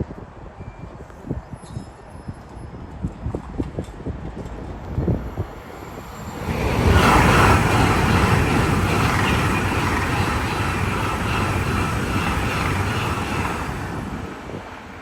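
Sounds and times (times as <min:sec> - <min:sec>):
train wheels rumbling on rail: 0:02.5 - 0:15.0.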